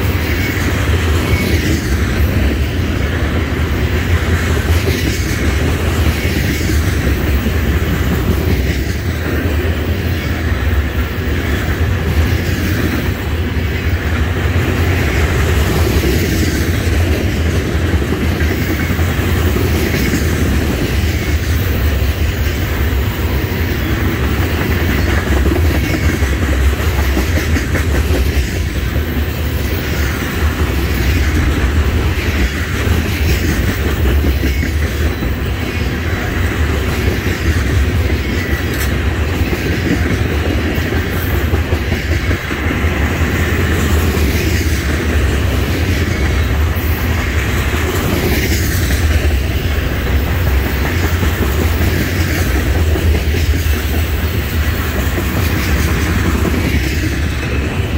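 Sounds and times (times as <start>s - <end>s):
train wheels on rails: 0.0s - 57.9s.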